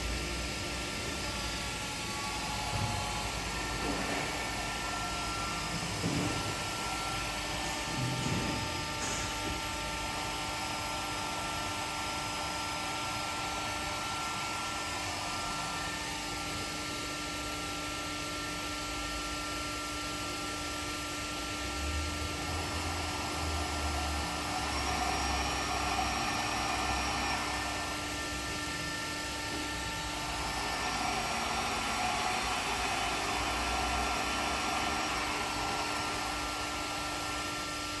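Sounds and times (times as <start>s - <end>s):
machine humming with whining tones: 0.0s - 38.0s
whirring with low rumble: 0.0s - 38.0s.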